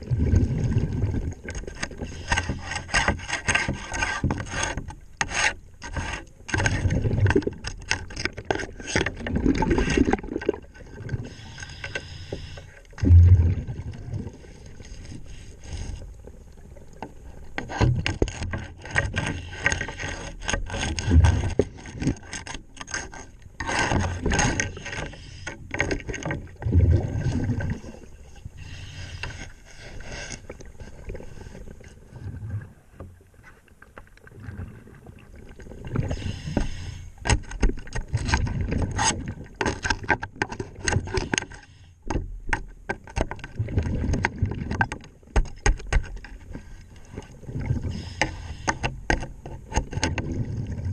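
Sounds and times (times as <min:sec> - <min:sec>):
tools scrubbing hull underwater: 0:00.0 - 0:50.9.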